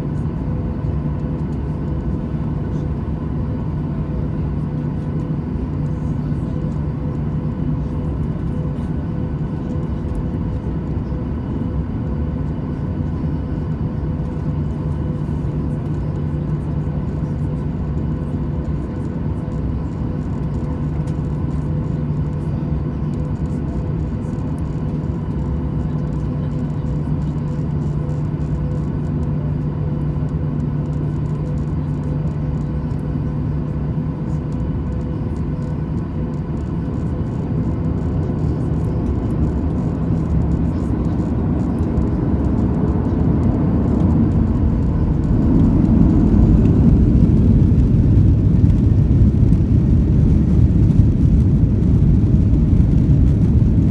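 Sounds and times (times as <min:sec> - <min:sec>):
jet cabin rumble: 0:00.0 - 0:53.9.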